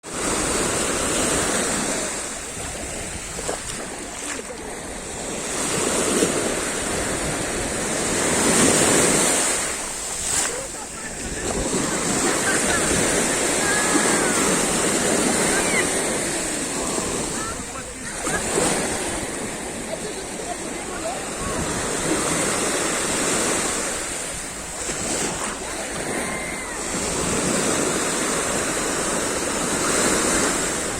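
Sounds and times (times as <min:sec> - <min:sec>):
sea surf on shore: 0:00.0 - 0:30.9
waves washing in: 0:00.0 - 0:30.9.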